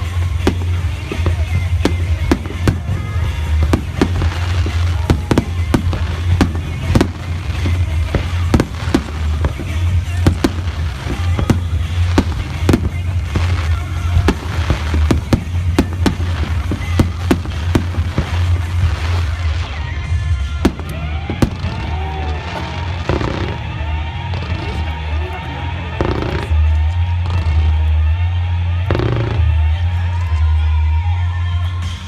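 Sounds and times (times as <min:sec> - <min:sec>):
fireworks bursts and crackling: 0:00.0 - 0:32.0
music playing: 0:00.0 - 0:32.0.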